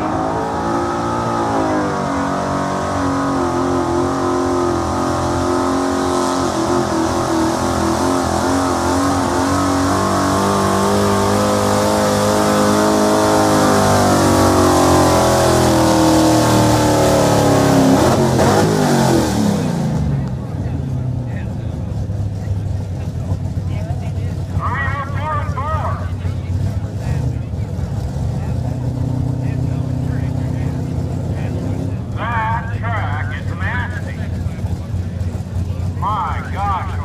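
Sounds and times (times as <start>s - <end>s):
truck engine at high revs: 0.0s - 37.0s.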